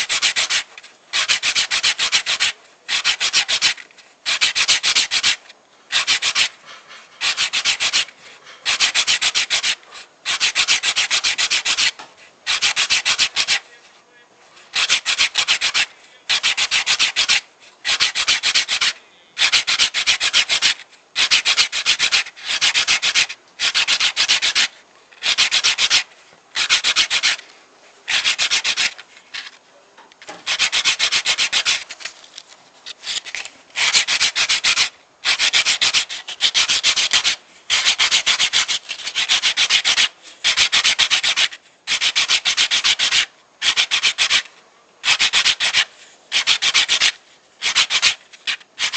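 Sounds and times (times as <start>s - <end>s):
sandpaper rasping on wood: 0.0s - 13.8s, 14.6s - 29.6s, 30.3s - 32.1s, 32.8s - 48.9s.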